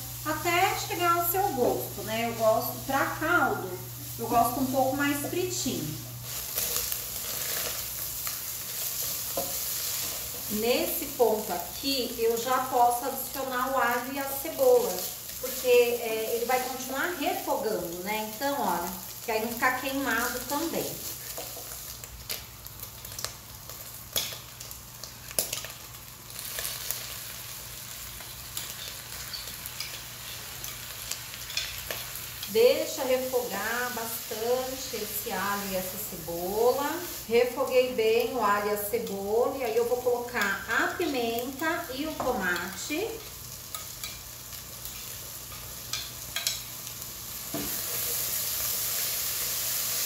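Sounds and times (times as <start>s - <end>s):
meat sizzling in a pot: 0.0s - 50.0s.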